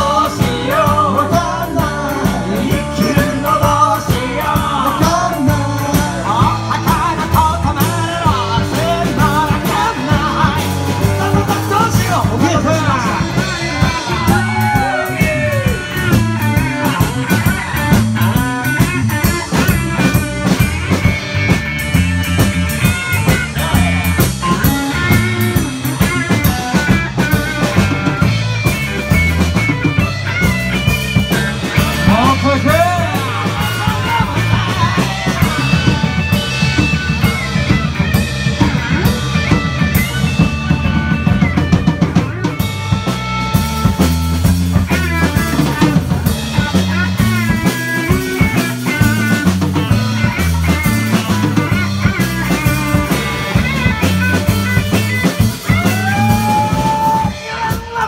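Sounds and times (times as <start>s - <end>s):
bass: 0.0s - 58.0s
drum kit beat: 0.0s - 58.0s
electric guitar: 0.0s - 58.0s
keyboard: 0.0s - 58.0s.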